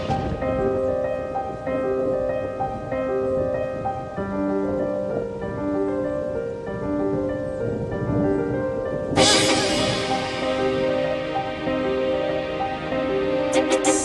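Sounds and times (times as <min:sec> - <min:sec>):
piano melody over chords: 0:00.0 - 0:14.0.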